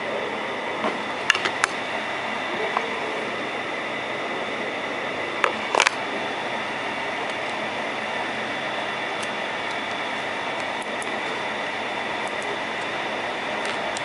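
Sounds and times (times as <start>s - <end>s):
fan whirring: 0.0s - 14.0s.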